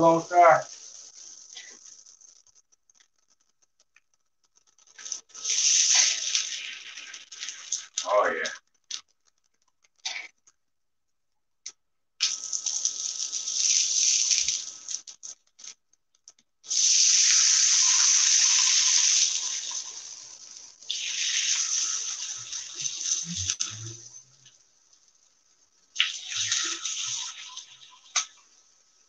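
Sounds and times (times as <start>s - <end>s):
tortillas sizzling on griddle: 0.0s - 8.1s, 12.2s - 15.8s, 16.7s - 29.0s.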